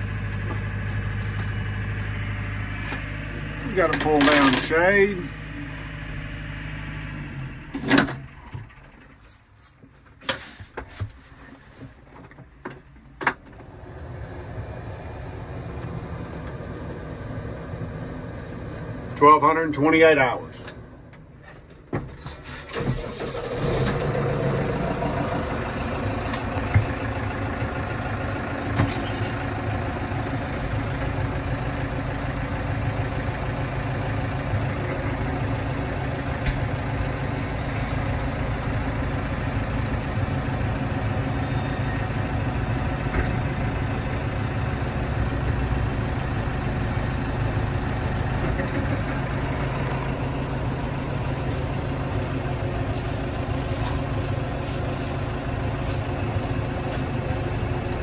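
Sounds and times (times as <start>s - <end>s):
tractor diesel engine starting: 0.0s - 11.8s, 12.8s - 58.0s
tractor engine idling: 0.0s - 58.0s.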